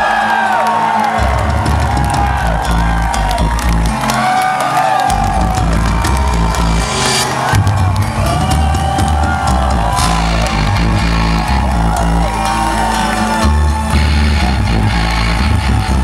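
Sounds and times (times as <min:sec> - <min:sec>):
industrial electronic music: 0:00.0 - 0:16.0.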